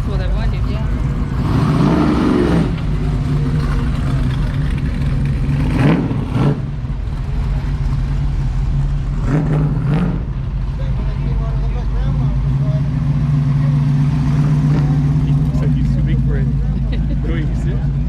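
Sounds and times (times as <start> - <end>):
car engine accelerating and idling: 0.0 - 18.0.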